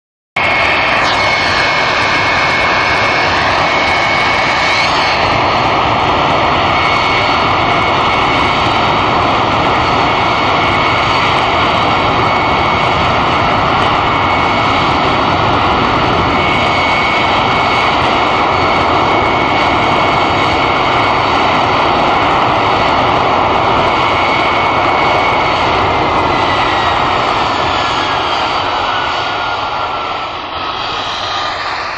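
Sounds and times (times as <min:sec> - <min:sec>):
jet engines whining: 0:00.4 - 0:31.9.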